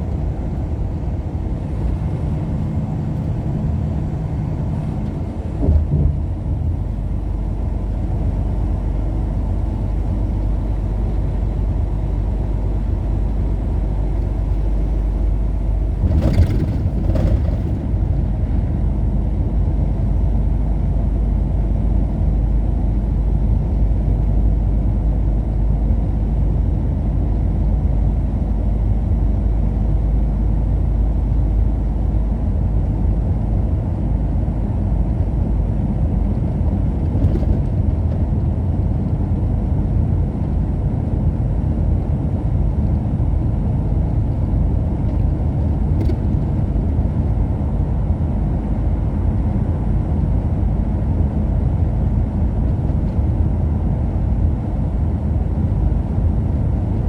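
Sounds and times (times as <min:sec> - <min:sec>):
car driving road noise: 0:00.0 - 0:57.0.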